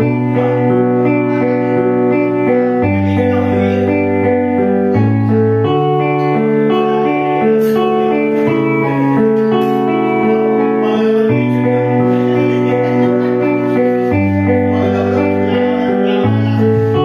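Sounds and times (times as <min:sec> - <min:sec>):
instrumental backing track: 0:00.0 - 0:17.0.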